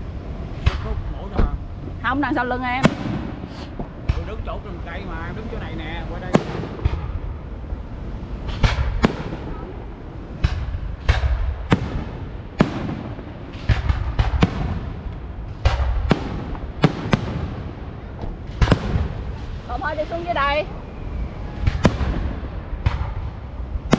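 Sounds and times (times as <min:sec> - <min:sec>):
fireworks bangs: 0:00.0 - 0:23.9
low rumble: 0:00.0 - 0:23.9.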